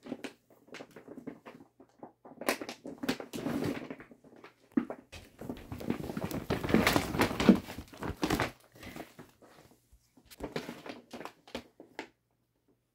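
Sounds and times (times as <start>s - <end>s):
plastic bag crinkling and rustling: 0.0s - 12.2s.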